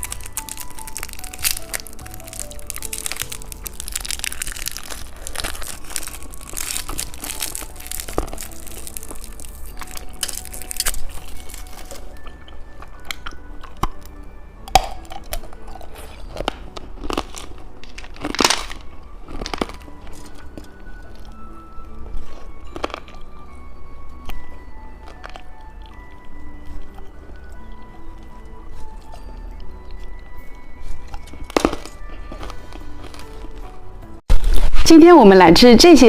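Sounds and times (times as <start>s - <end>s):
crunchy eating: 0.0s - 23.5s, 24.2s - 33.8s
faint background music: 0.0s - 36.0s.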